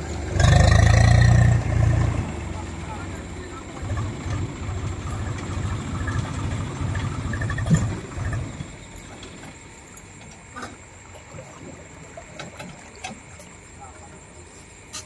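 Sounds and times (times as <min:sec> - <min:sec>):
faint splashing: 0:00.0 - 0:15.0
tractor diesel engine chugging: 0:00.0 - 0:15.0.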